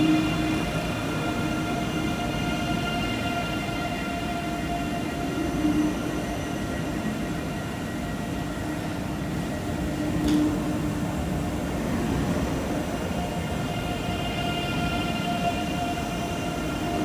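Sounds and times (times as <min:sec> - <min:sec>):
electric train passing: 0:00.0 - 0:17.0.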